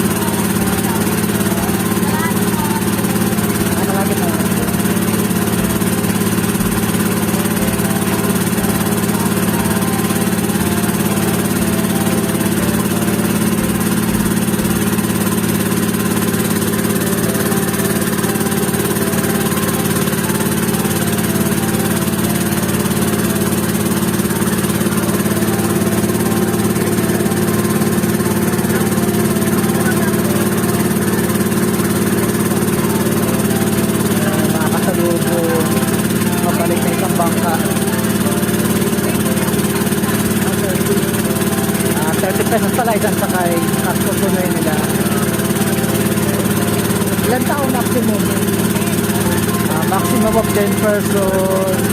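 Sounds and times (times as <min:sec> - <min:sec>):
boat engine droning: 0:00.0 - 0:51.9.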